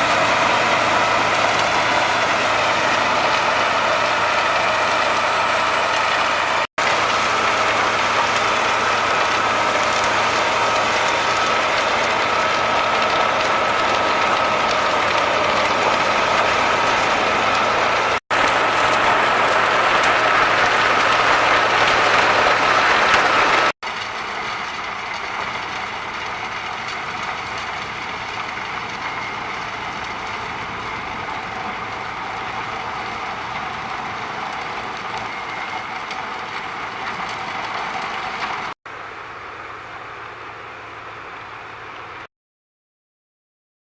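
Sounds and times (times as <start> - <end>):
wood chipper grinding: 0.0 - 42.2
quieter machine noise: 0.0 - 42.3.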